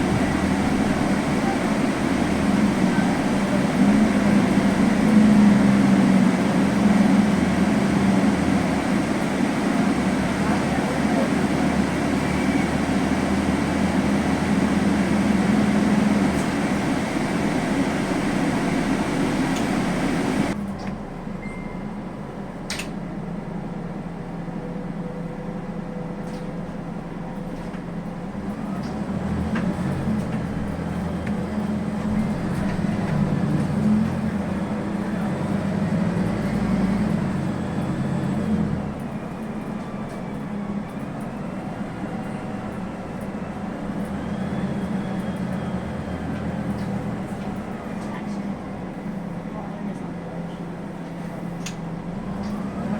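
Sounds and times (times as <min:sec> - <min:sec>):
road and tyre noise: 0:00.0 - 0:20.6, 0:27.5 - 0:52.9
bus engine running: 0:00.0 - 0:52.9.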